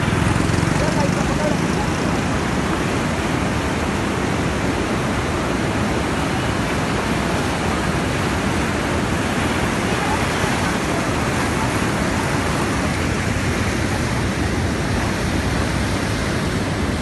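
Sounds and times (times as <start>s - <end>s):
water roaring through rapids: 0.0s - 17.0s.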